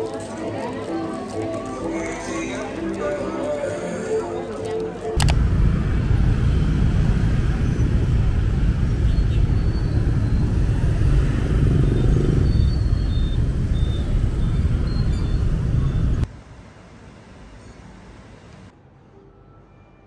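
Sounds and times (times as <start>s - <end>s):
street traffic rumble: 0.0s - 18.7s.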